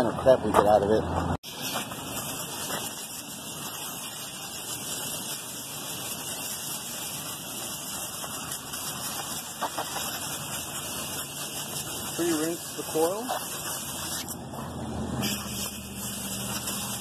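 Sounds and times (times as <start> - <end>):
hose spraying water jet on metal fins: 1.4 - 14.4, 15.2 - 17.0.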